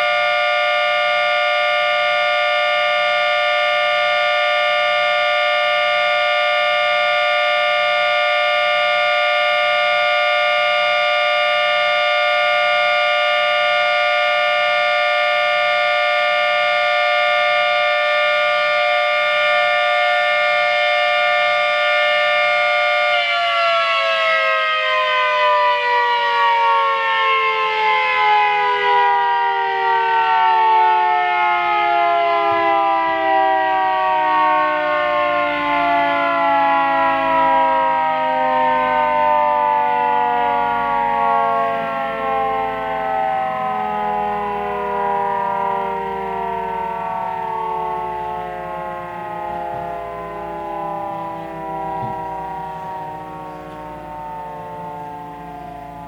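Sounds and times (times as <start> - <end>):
two-tone siren winding down: 0.0 - 56.0.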